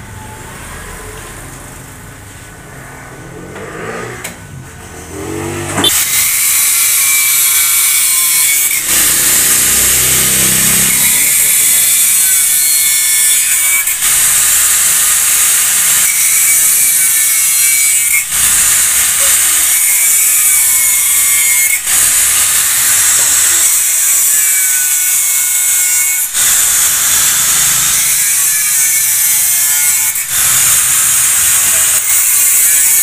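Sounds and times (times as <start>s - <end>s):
angle grinder grinding metal: 2.7s - 33.0s.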